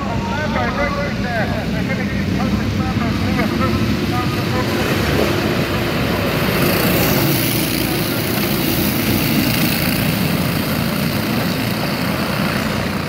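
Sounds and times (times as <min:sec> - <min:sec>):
go-kart engines at full throttle: 0:00.0 - 0:13.0.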